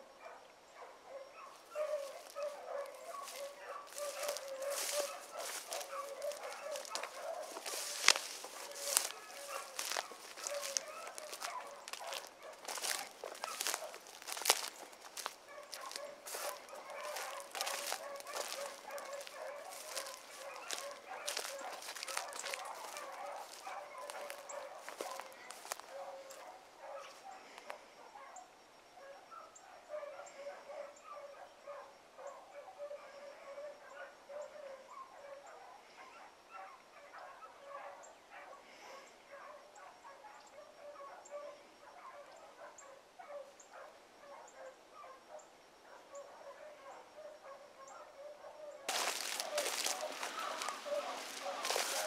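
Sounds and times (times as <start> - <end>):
dogs barking and yipping faintly: 0.0 - 52.0.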